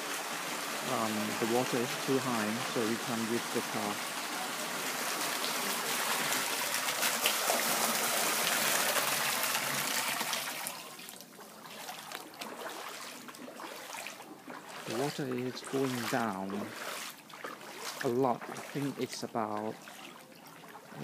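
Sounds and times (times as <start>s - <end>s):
running water trickling: 0.0s - 21.0s.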